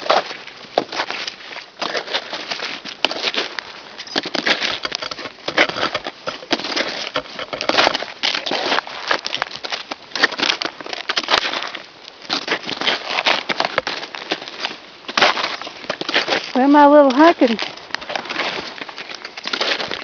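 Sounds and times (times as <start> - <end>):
snowshoe footsteps crunching snow: 0.0 - 20.0.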